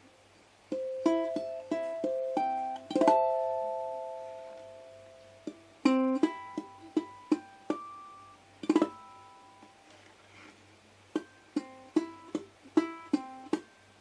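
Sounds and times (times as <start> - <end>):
ukulele plucked notes and chords: 0.7 - 9.9, 11.1 - 14.0.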